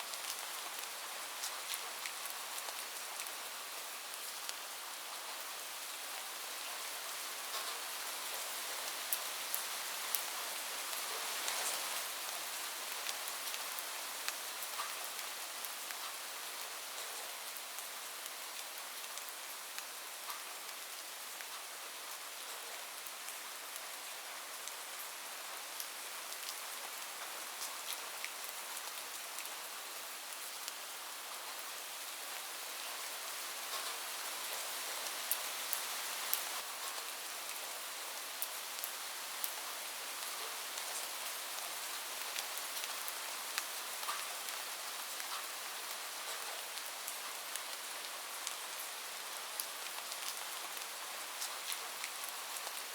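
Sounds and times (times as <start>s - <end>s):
rain falling on a roof: 0.0s - 52.9s.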